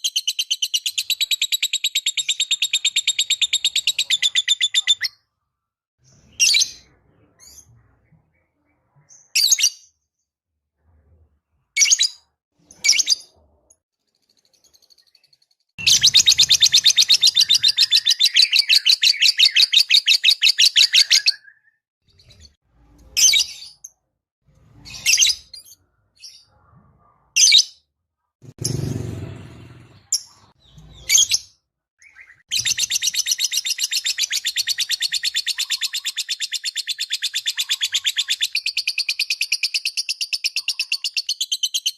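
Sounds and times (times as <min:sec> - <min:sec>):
bird chirping: 0:00.0 - 0:05.3, 0:06.0 - 0:10.3, 0:11.8 - 0:26.8, 0:29.8 - 0:41.9.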